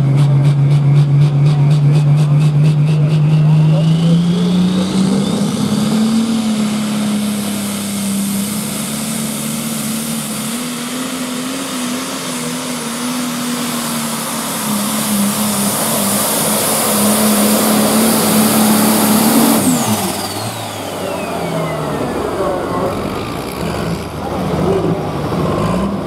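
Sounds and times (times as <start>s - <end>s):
high engine whine: 0.0s - 26.0s
tractor engine running flat out: 0.0s - 26.0s.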